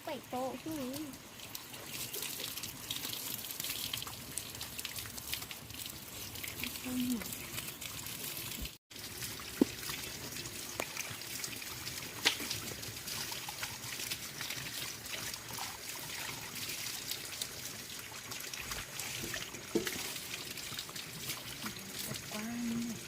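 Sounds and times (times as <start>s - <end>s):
liquid trickling: 0.0s - 23.0s.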